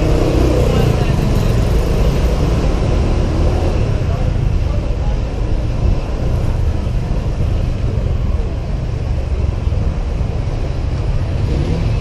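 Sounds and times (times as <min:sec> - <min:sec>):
scooter engine and road noise: 0:00.0 - 0:12.0
surrounding traffic: 0:00.0 - 0:12.0.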